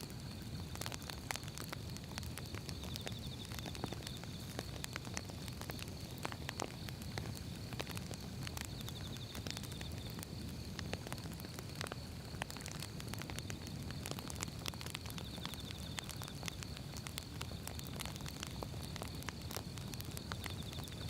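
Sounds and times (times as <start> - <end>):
firewood crackling and popping: 0.0 - 21.0
low rumble of flames: 0.0 - 21.0.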